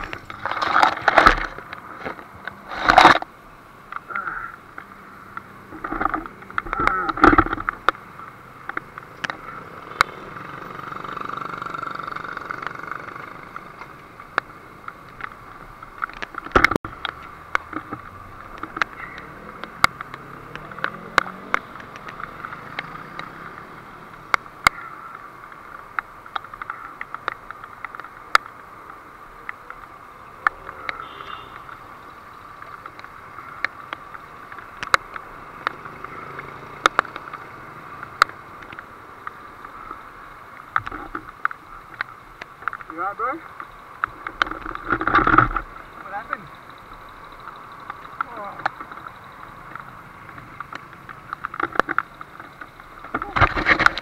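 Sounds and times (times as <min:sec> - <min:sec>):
road traffic passing: 0:00.0 - 0:54.0
sharp clicks: 0:08.6 - 0:54.0.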